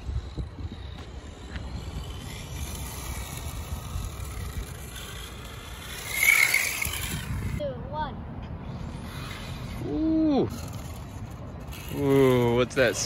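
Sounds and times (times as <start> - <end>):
electric rc car motor whining: 0.0 - 7.6, 8.6 - 13.0.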